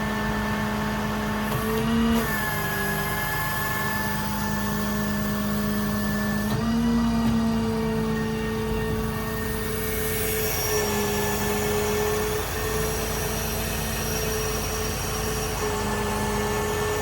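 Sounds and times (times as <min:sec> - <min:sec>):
diesel engine running: 0:00.0 - 0:17.0
hydraulics whining: 0:00.0 - 0:17.0.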